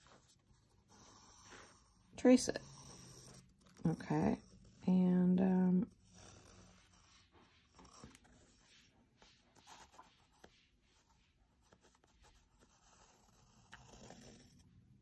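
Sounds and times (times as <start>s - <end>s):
pencil scratching on paper: 0.0s - 14.8s.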